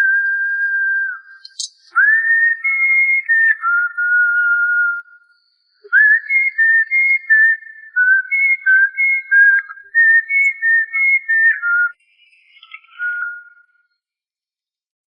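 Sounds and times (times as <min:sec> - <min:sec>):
person whistling a tune: 0:00.0 - 0:12.0, 0:12.8 - 0:13.8.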